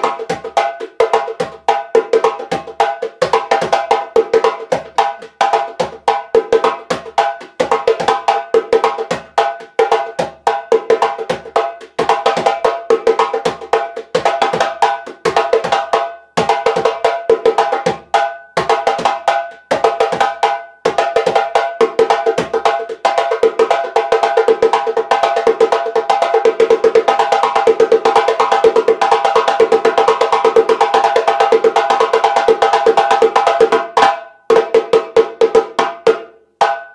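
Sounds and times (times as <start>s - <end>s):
hand drum rhythm: 0.0s - 36.9s.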